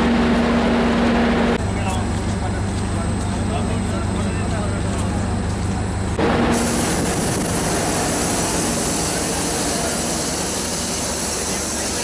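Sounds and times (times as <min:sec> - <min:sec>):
diesel train engine running: 0:00.0 - 0:12.0.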